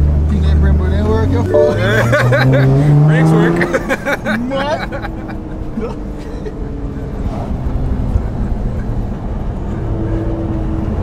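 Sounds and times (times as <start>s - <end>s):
car engine drone in cabin: 0.0s - 11.0s.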